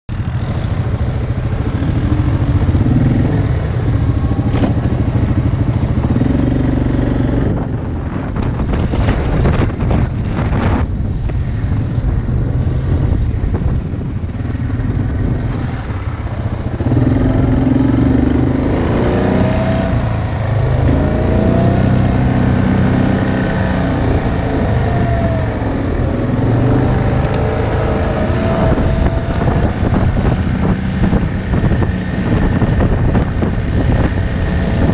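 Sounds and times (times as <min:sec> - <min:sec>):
atv engine revving: 0:00.1 - 0:07.8, 0:11.6 - 0:34.9.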